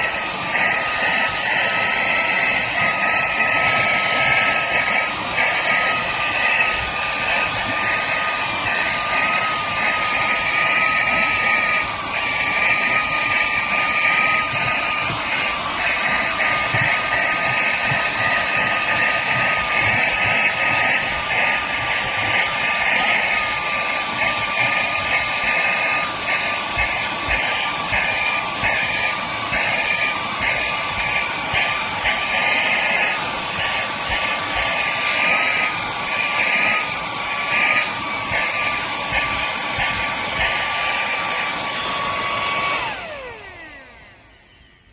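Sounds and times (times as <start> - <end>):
handheld vacuum cleaner running: 0.0 - 44.9.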